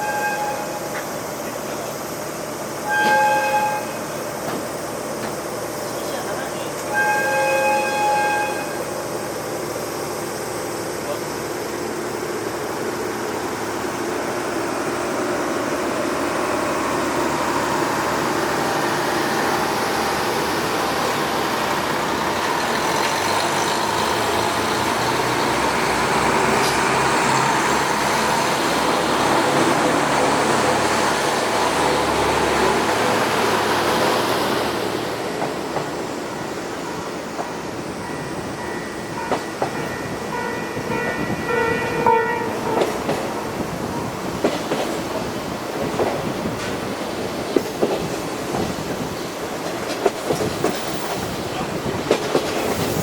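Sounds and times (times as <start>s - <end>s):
wheels rumbling on rail: 0.0s - 53.0s.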